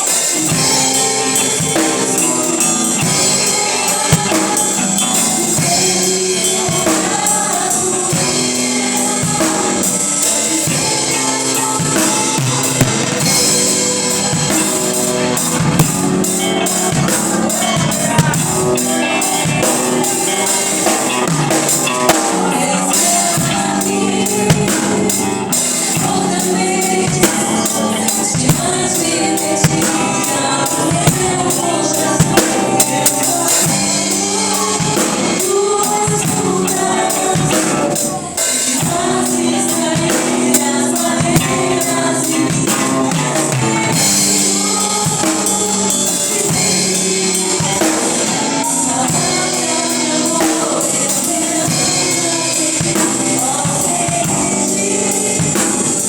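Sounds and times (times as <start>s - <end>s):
band playing gospel music: 0.0s - 56.0s
singing: 0.0s - 56.0s.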